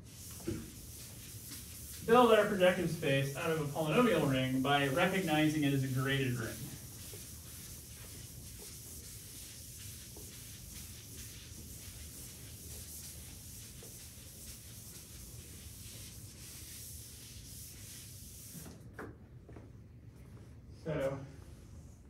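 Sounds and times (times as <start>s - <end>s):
eraser rubbing on chalkboard: 0.0s - 18.7s.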